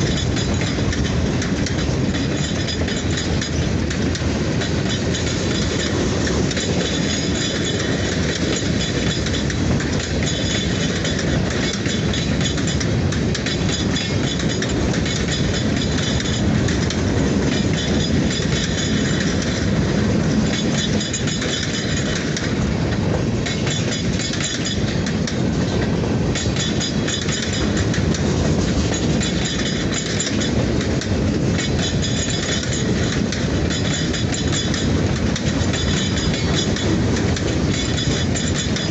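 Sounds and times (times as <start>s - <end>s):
train rolling on rails: 0.0s - 38.9s.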